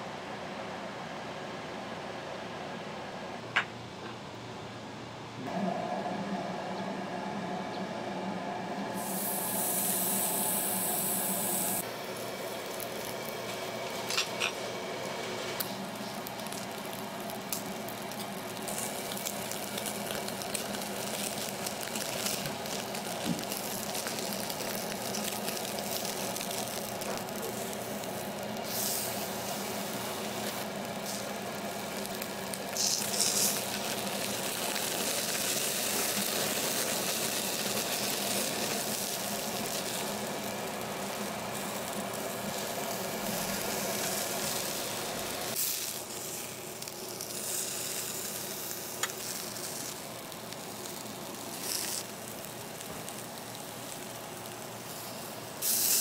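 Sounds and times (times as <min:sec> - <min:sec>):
beef sizzling on a grill: 0:08.9 - 0:56.0.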